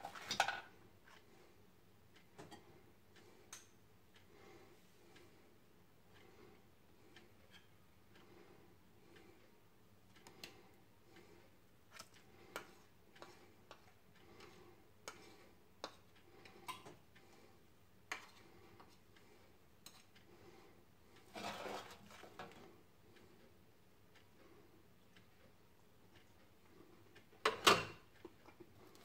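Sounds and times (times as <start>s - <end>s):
faint regular ticking: 0.8s - 21.3s, 22.6s - 27.4s.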